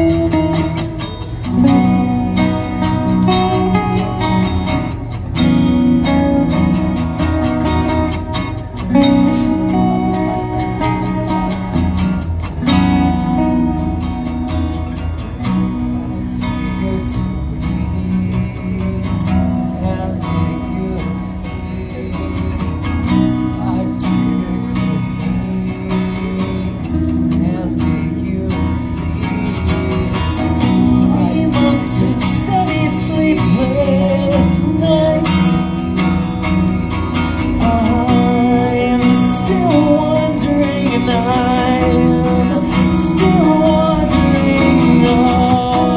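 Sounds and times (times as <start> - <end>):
acoustic guitar: 0.0 - 45.9
electric guitar: 0.0 - 45.9.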